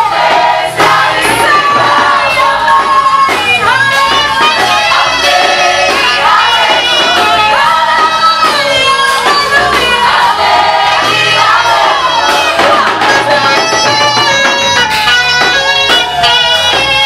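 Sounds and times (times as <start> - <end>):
group singing gospel song: 0.0 - 17.0
instrumental accompaniment: 0.0 - 17.0.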